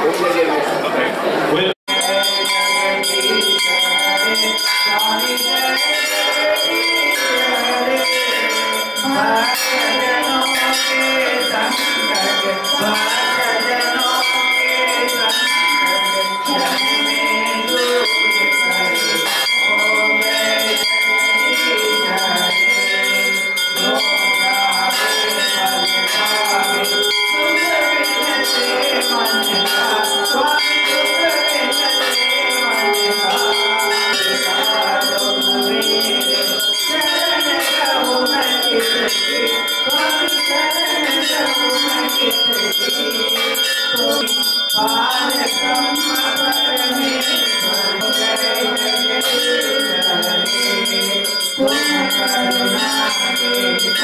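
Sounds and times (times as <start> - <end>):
voices chanting: 0.0 - 54.0
temple bells ringing rapidly: 1.5 - 54.0.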